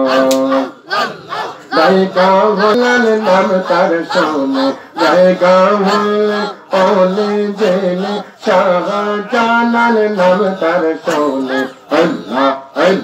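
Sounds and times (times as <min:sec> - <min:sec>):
man singing devotional chant: 0:00.0 - 0:00.9, 0:01.7 - 0:13.0.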